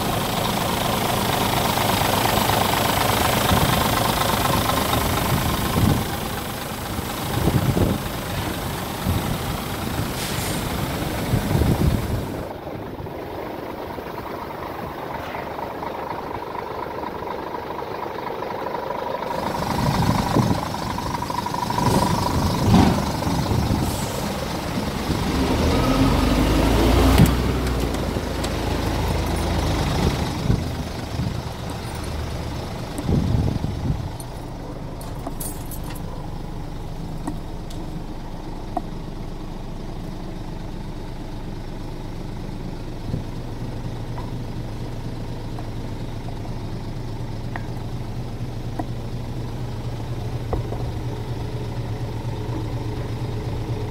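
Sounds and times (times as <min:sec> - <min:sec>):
diesel truck engine idling: 0:00.0 - 0:53.9.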